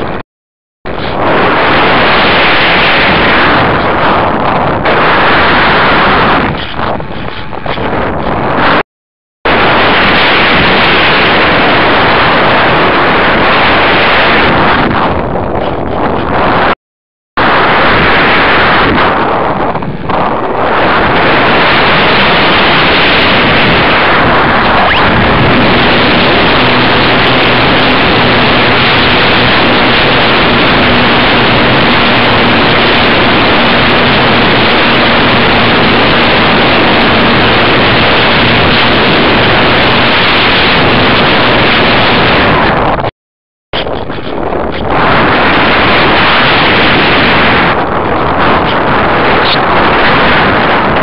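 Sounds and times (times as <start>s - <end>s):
rushing airflow on microphone: 0.8s - 16.8s, 17.4s - 51.0s.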